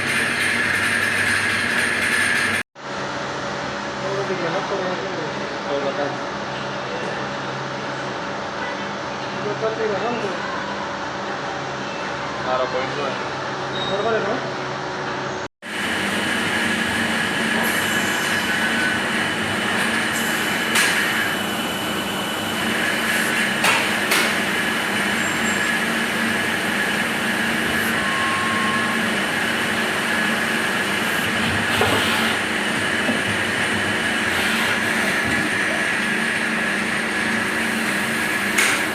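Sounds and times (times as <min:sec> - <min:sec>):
machine drone with high whine: 0:00.0 - 0:38.9.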